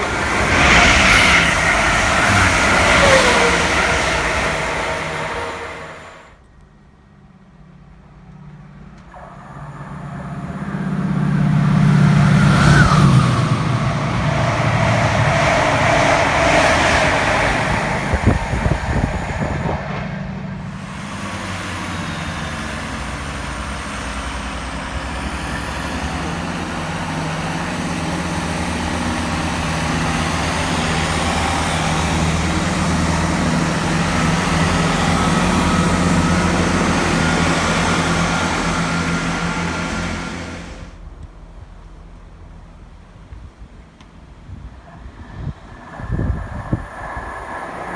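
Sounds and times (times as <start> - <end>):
high whine: 0.0 - 42.0
diesel train engine: 0.0 - 47.9.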